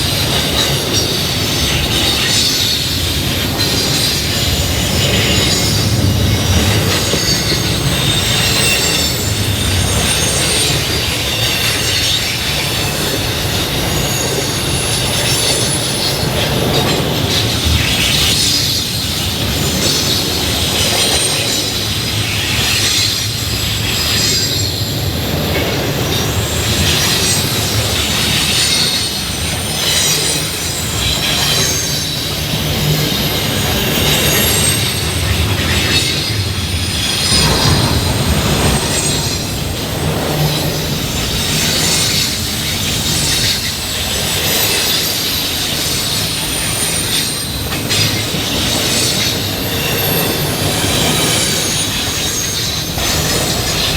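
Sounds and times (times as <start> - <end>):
steel wheels squealing on rails: 0.0 - 53.9
train rumbling and clattering: 0.0 - 53.9.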